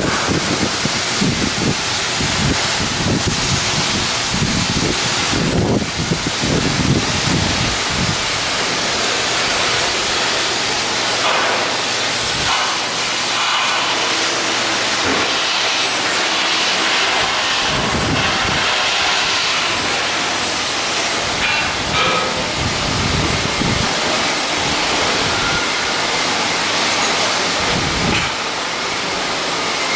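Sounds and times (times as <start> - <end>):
loud steady hiss: 0.0 - 29.9.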